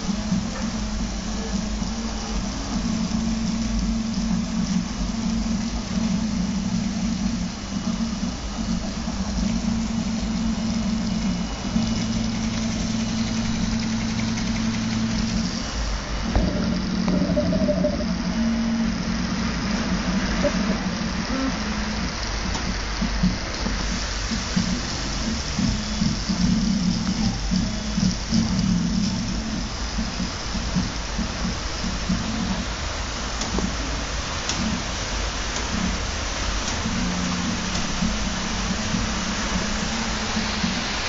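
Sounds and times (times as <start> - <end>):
printer stepper motors whirring: 0.0 - 41.0.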